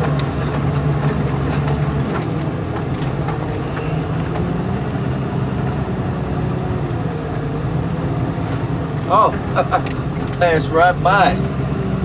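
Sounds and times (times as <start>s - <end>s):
machine engine droning: 0.0s - 12.0s.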